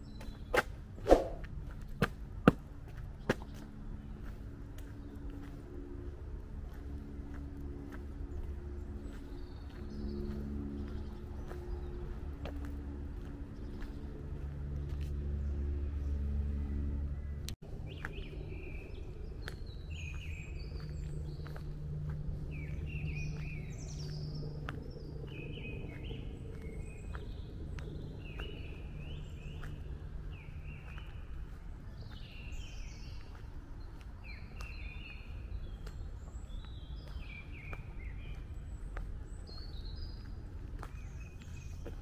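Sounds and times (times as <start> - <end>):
songbirds chirping: 0.0 - 42.0
steady low hum: 0.0 - 42.0.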